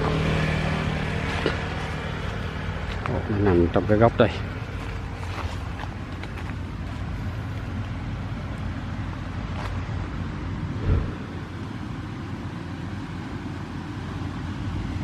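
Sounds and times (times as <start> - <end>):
combine harvester engine humming: 0.0 - 15.0.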